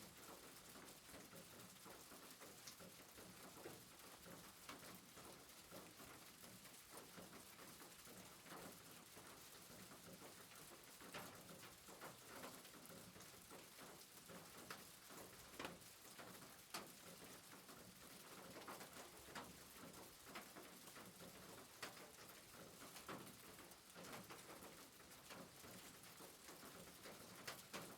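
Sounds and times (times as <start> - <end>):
soft rain hiss: 0.0 - 27.9
raindrops pattering: 0.1 - 27.9.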